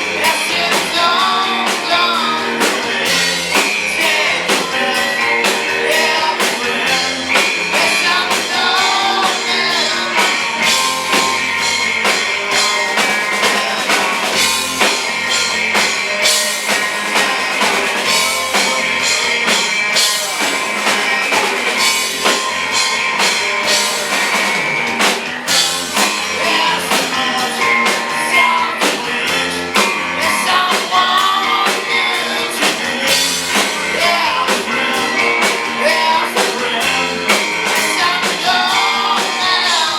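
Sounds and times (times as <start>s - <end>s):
person singing: 0.0s - 15.1s, 15.7s - 22.4s, 25.5s - 39.9s
rock band playing live: 0.0s - 39.9s.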